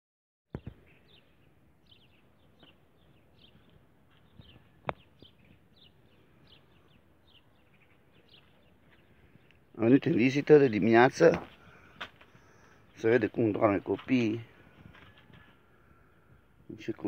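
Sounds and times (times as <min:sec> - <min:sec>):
small birds chirping: 0:00.5 - 0:17.0.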